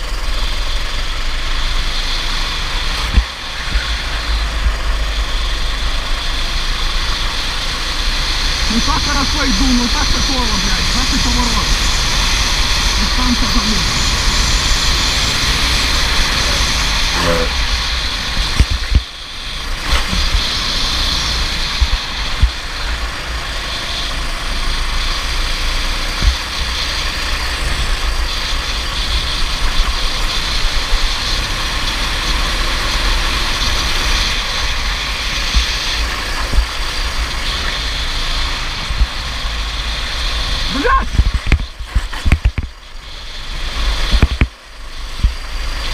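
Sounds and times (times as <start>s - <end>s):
kart engine running: 0.0s - 45.9s
wind buffeting microphone: 0.8s - 45.9s.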